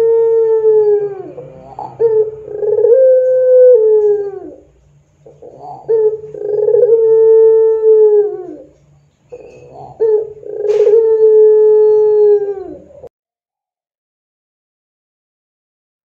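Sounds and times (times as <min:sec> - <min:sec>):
dove cooing: 0:00.0 - 0:13.1.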